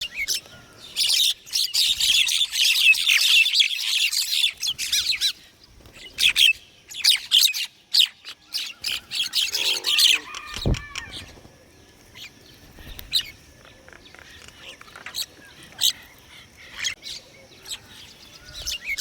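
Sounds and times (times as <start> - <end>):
small birds chirping and trilling: 0.0 - 19.0.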